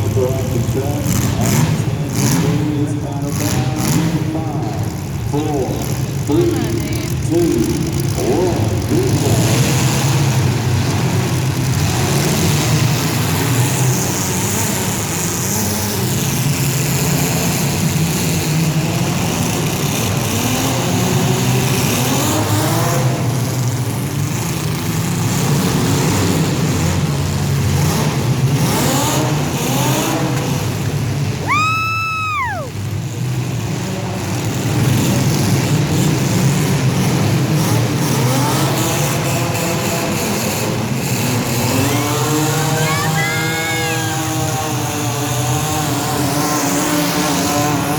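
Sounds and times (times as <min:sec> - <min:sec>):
car engines revving hard: 0:00.0 - 0:47.9.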